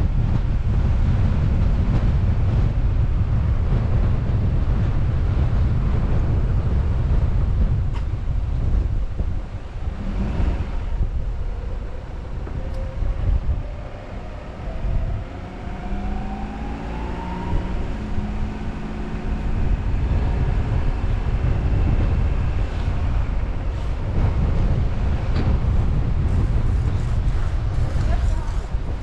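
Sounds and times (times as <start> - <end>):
heavy low rumble: 0.0 - 29.0
road noise: 0.0 - 29.0
car engine accelerating: 0.4 - 28.2.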